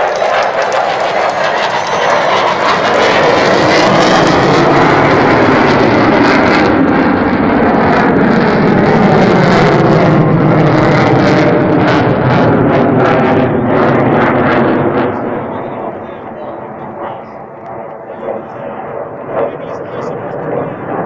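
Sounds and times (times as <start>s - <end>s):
jet fighter engines flying overhead: 0.0s - 21.0s.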